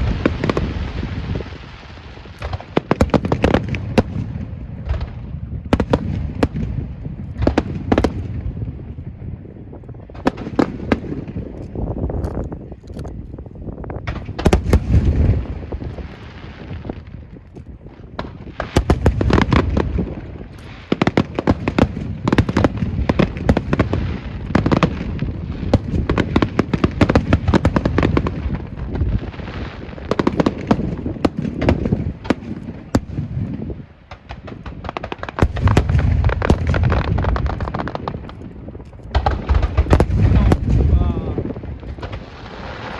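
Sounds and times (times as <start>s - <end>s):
fireworks cracking and banging: 0.0s - 42.9s.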